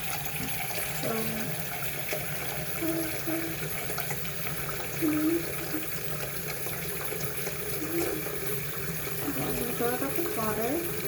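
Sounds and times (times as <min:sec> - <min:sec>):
water running from a faucet: 0:00.0 - 0:11.0.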